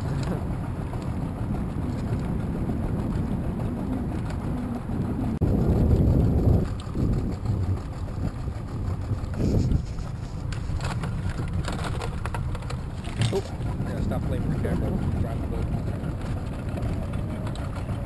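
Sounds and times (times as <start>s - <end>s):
outboard motor rumbling: 0.0s - 18.0s
wind buffeting microphone: 0.0s - 18.0s.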